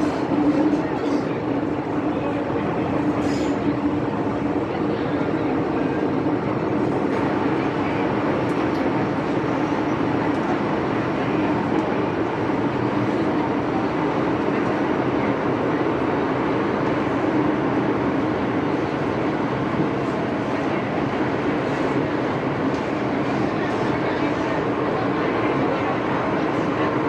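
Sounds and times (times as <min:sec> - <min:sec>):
train running noise and wind: 0:00.0 - 0:27.0.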